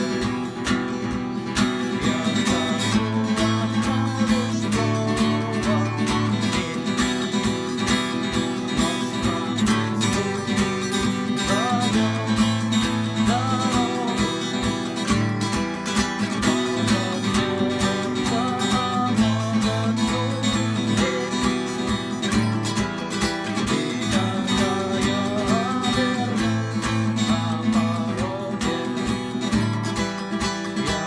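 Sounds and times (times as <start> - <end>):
acoustic guitar strummed: 0.0 - 31.0.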